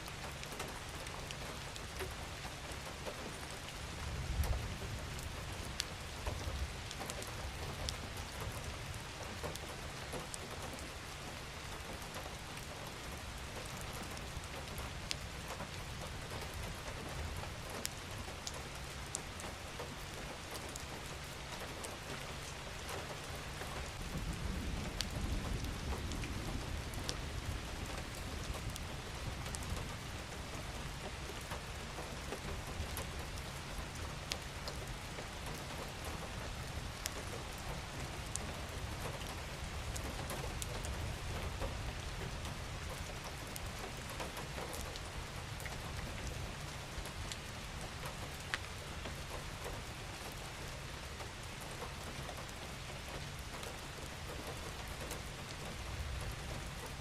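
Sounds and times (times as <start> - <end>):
raindrops ticking on a surface: 0.0 - 57.0
steady rain: 0.0 - 57.0.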